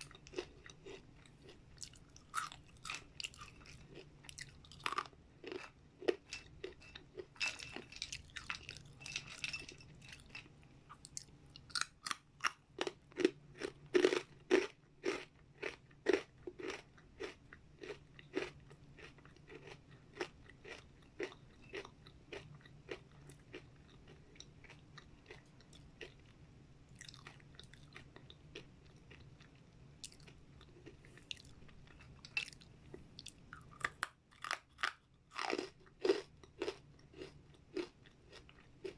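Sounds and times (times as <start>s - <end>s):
chewing crunchy chips: 0.0s - 38.9s.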